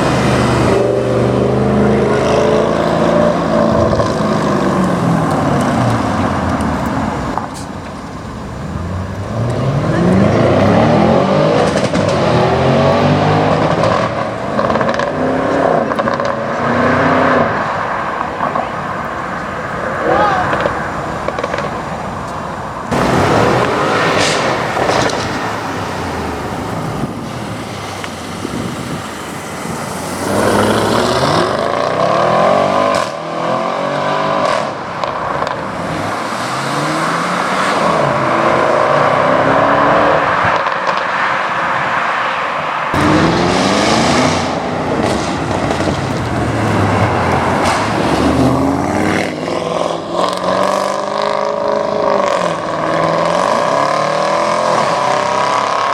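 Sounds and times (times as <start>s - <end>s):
car engines accelerating hard: 0.0s - 55.9s.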